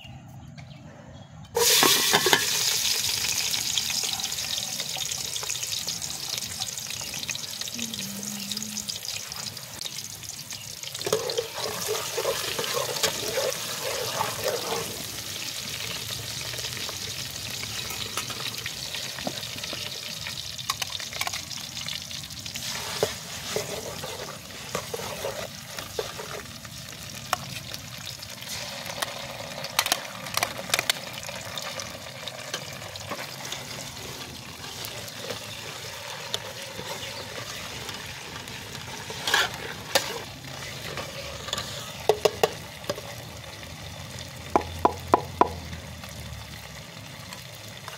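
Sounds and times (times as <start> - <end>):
onions sizzling in oil: 1.6 - 47.9.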